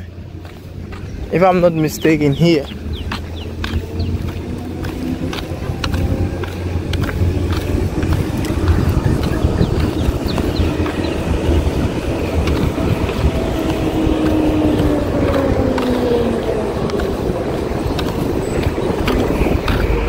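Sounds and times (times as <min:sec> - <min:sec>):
steady low traffic rumble: 0:00.0 - 0:20.0
vehicle passing close by: 0:00.0 - 0:20.0.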